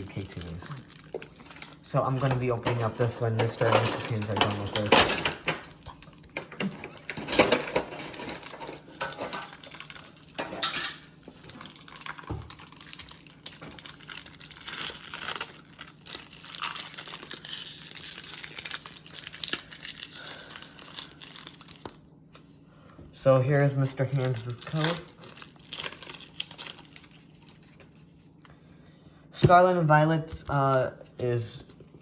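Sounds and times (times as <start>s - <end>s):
foil wrappers crinkling and tearing: 0.0s - 22.1s, 23.5s - 28.4s.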